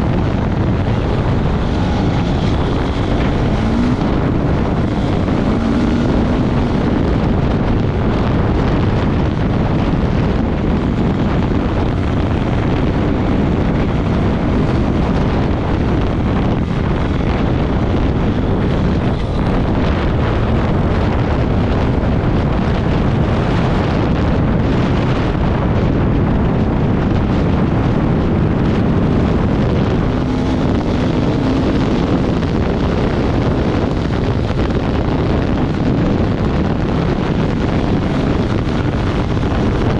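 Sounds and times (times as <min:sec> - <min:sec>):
vehicle engine running: 0:00.0 - 0:39.9
wind buffeting microphone: 0:00.0 - 0:39.9.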